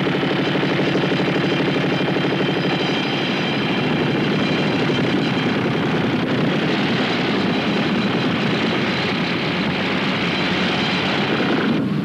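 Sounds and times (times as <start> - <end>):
rock drilling machinery: 0.0 - 12.0.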